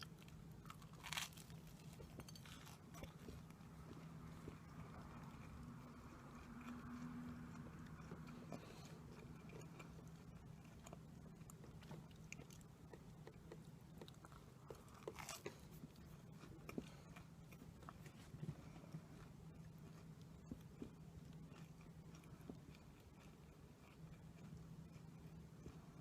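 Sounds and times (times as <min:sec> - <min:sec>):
chewing sweets: 0:00.0 - 0:26.0
steady low hum: 0:00.0 - 0:26.0.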